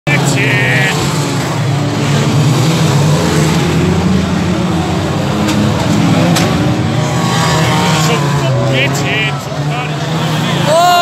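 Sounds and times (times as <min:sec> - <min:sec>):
racing car engines: 0:00.1 - 0:11.0.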